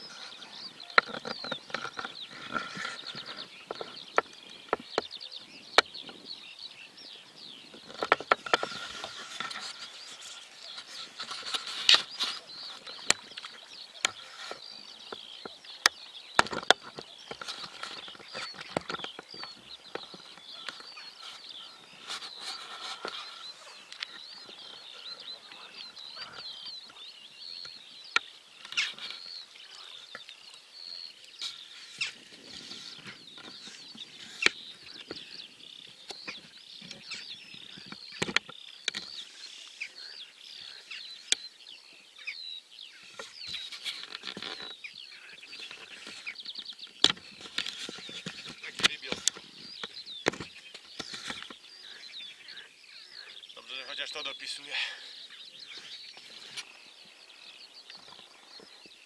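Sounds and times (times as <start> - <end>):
small birds twittering: 0.0 - 59.0.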